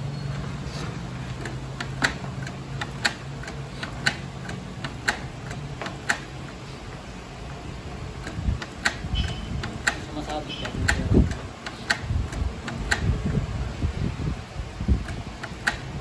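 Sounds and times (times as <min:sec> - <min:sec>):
low motor hum: 0:00.0 - 0:16.0
printer mechanism clicking: 0:00.2 - 0:13.8, 0:14.8 - 0:16.0.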